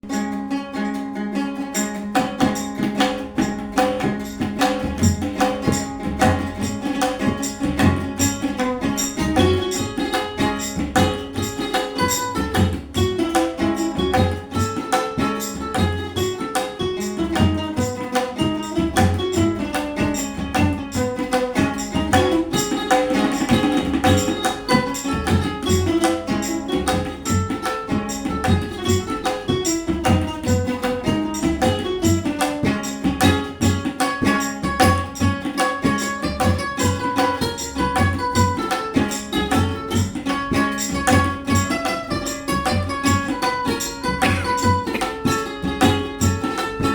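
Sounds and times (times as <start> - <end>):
ukulele melody: 0.0 - 46.9
tabla rhythm: 1.8 - 46.9.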